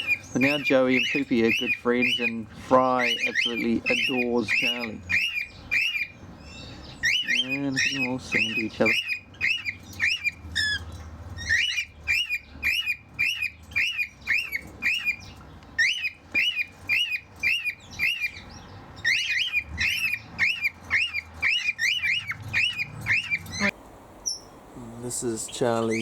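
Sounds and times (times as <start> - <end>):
cockatiels chirping whistles: 0.0 - 2.4, 3.0 - 6.2, 7.0 - 10.8, 11.4 - 18.4, 19.0 - 23.7.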